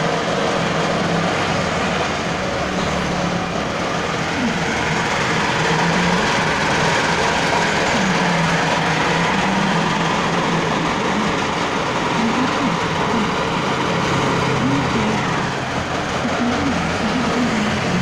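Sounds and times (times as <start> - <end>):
motor hum: 1.8 - 18.0.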